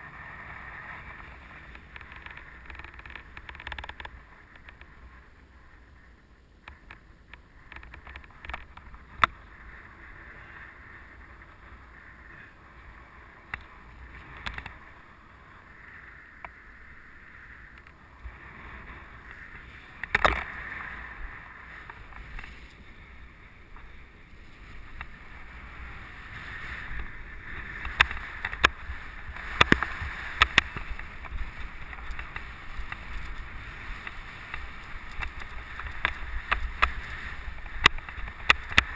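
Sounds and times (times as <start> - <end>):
bike rattling over bumps: 0.0 - 5.2, 6.7 - 15.2, 16.5 - 38.9
wind and tyre noise: 0.0 - 38.9.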